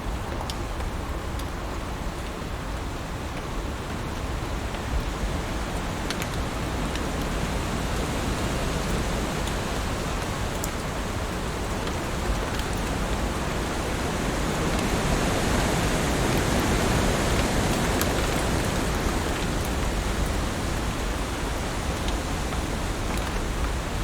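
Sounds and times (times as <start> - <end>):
heavy rain falling on leaves: 0.0 - 24.0.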